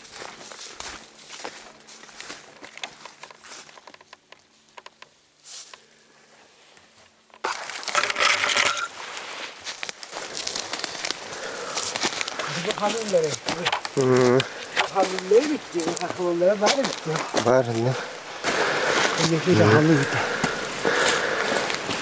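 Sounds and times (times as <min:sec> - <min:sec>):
dry branches crackling and snapping: 0:00.0 - 0:05.8, 0:07.3 - 0:19.5
footsteps crunching on forest floor: 0:00.0 - 0:22.0.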